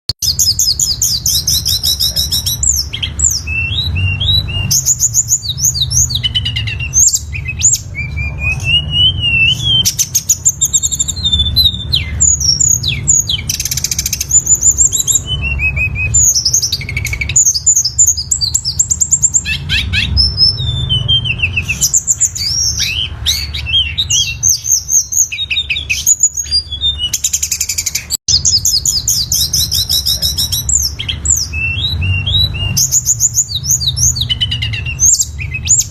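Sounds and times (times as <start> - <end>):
songbird singing: 0.1 - 35.9.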